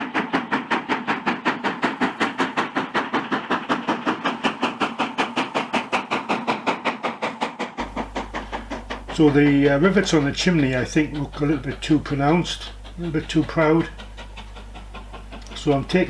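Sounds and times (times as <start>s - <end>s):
steam locomotive exhaust chuffing: 0.0s - 16.0s.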